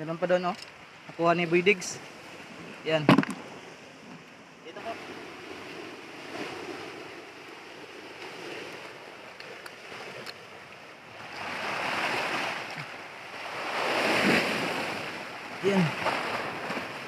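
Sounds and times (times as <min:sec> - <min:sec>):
sea surf breaking on rocks: 0:00.0 - 0:17.0.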